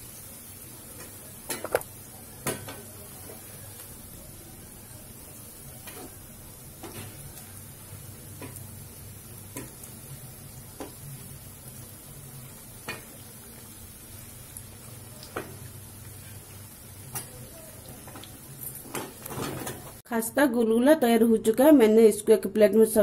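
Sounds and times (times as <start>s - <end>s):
fritters sizzling in hot oil: 0.0s - 20.1s.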